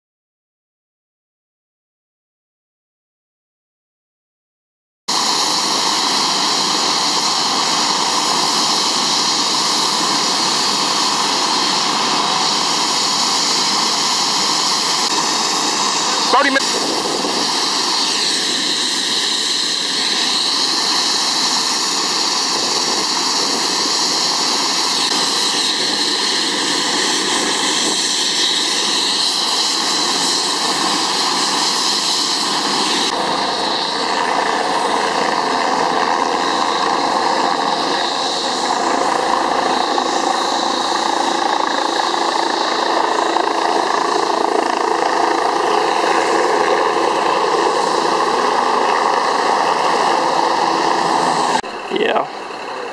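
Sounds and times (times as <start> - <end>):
helicopter engines and rotor: 5.1 - 52.9.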